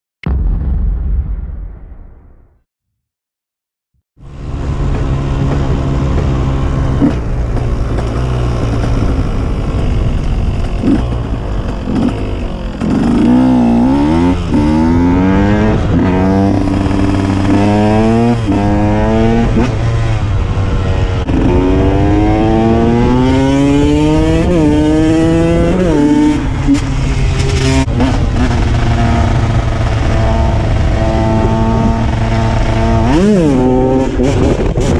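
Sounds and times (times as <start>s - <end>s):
motorcycle engine accelerating: 4.2s - 34.9s.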